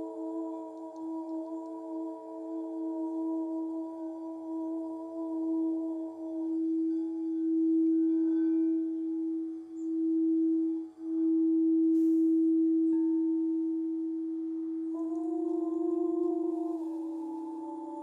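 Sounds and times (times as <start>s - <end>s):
singing bowl ringing: 0.0s - 18.0s.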